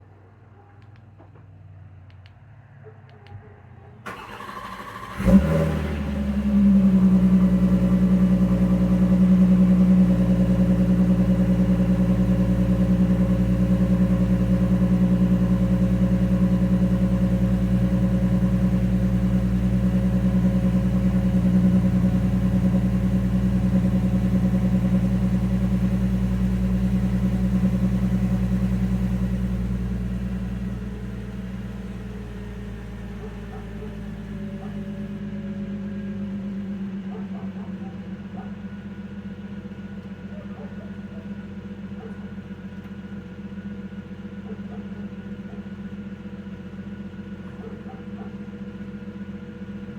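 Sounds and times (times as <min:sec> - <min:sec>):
car engine idling high: 0:04.1 - 0:49.9.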